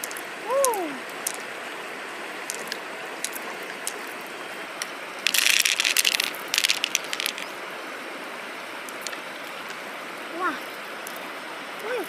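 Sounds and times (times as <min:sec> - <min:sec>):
river water running: 0:00.0 - 0:12.0.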